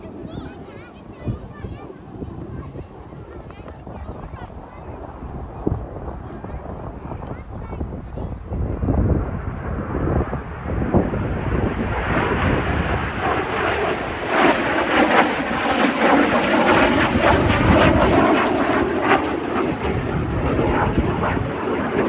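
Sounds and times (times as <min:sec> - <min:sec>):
jet engine roaring: 0:00.0 - 0:22.0.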